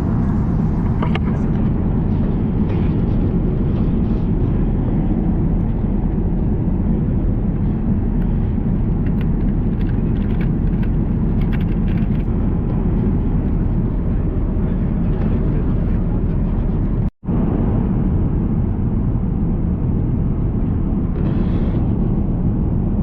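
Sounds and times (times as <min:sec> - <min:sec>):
airliner engine rumble in cabin: 0:00.0 - 0:23.0.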